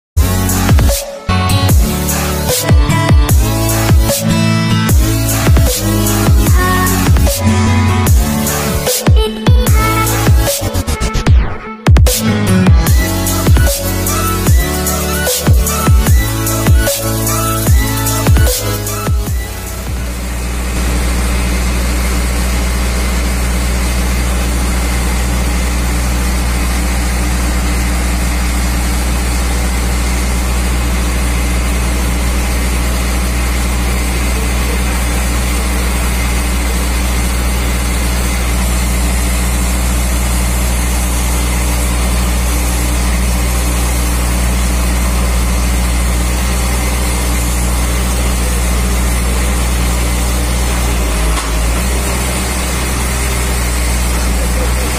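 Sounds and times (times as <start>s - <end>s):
diesel truck engine running: 0.2s - 54.9s
hydraulic crane working: 0.2s - 54.9s.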